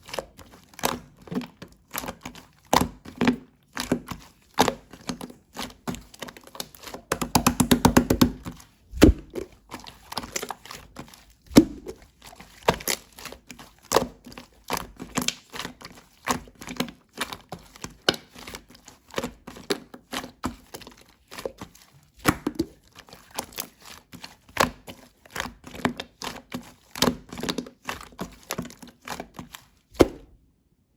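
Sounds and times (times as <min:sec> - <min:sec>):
slime squished by hand: 0:00.0 - 0:30.4.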